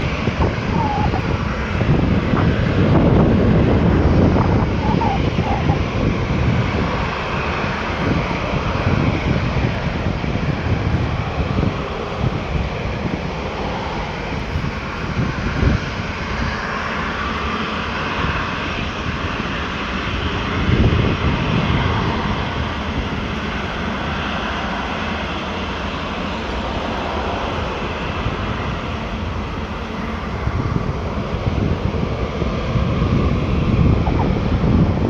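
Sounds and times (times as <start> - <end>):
airliner engine roar: 0.0 - 35.0.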